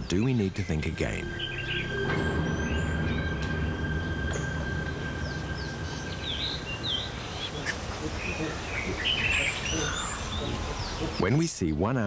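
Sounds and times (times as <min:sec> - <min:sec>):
low steady drone: 0:00.0 - 0:11.2
birds chirping: 0:00.0 - 0:12.0.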